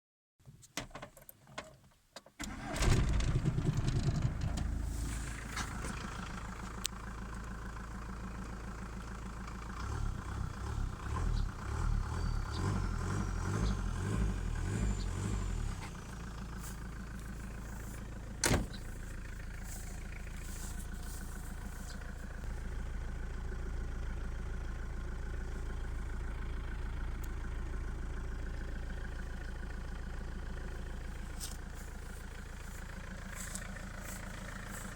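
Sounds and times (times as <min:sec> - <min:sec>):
diesel engine starting and idling: 0:02.4 - 0:34.9.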